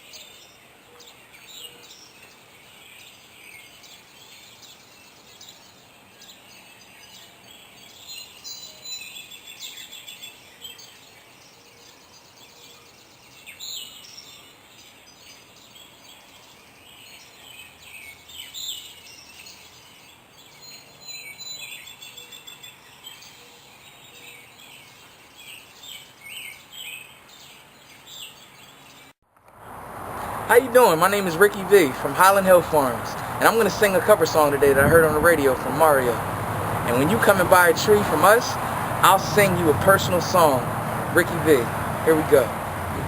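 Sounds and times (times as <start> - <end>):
songbirds chirping and trilling: 0.0 - 43.0
steady outdoor hiss: 0.0 - 43.0.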